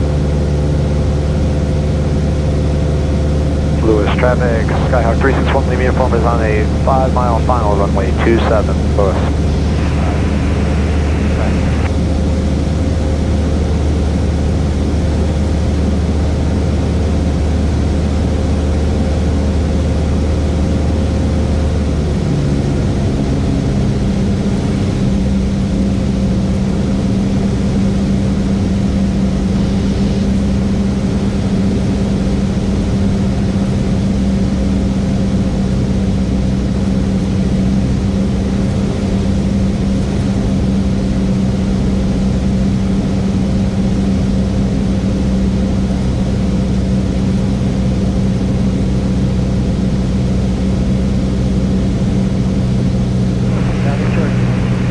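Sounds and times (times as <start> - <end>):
airplane engine droning: 0.0 - 54.9.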